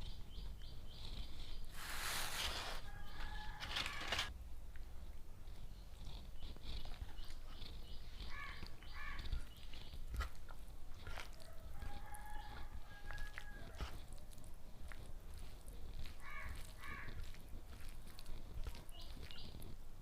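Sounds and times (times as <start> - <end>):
chewing with clicks and crunches: 0.0 - 2.0, 2.6 - 20.0
birds calling: 0.0 - 4.3, 5.4 - 13.8, 15.5 - 19.7.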